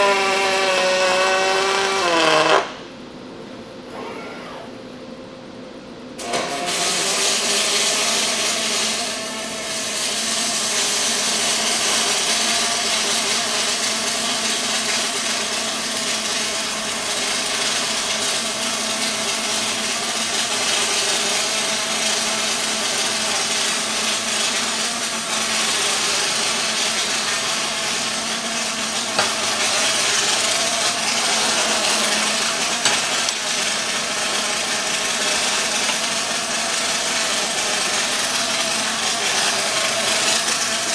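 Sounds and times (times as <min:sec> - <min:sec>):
welding arc buzzing: 0:00.0 - 0:02.9, 0:06.2 - 0:40.9.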